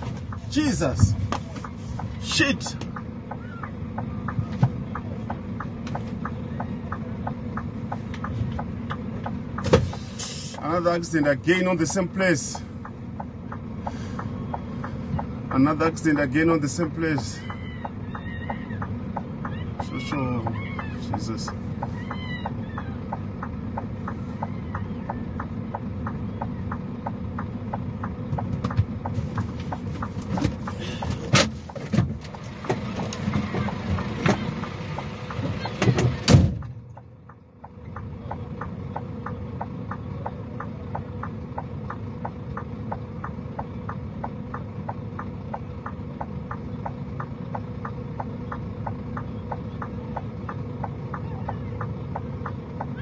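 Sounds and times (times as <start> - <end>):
steady low rumble: 0.0 - 53.0
regular ticking: 0.2 - 35.8, 36.6 - 53.0.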